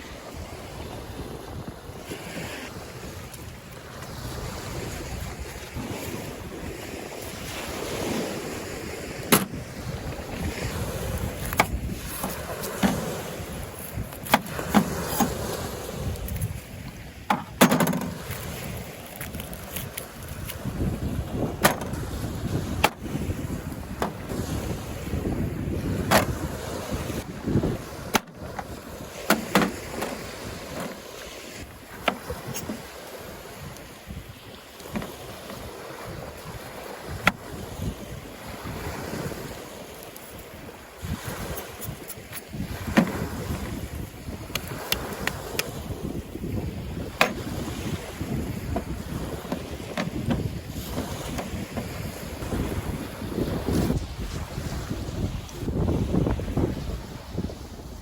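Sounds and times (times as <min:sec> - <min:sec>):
sea surf: 0:00.0 - 0:58.0
wind: 0:00.0 - 0:58.0.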